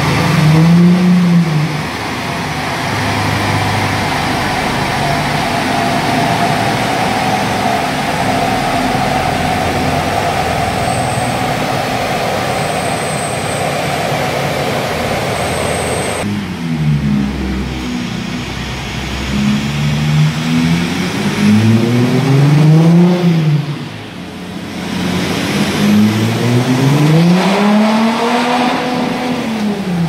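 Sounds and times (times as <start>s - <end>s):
diesel car engine and exhaust: 0.0s - 30.0s.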